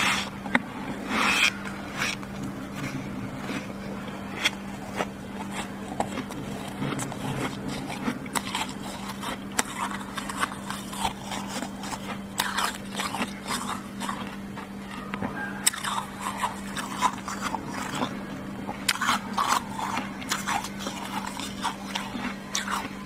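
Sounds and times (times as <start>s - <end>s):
crunching and scraping of frost: 0.0s - 23.0s
low hum: 0.0s - 23.0s.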